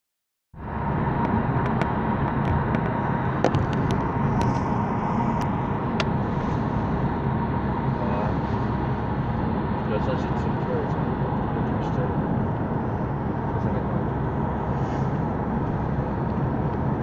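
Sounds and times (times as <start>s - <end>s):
car road and wind noise: 0.6s - 17.0s
faint steady whine: 0.6s - 17.0s.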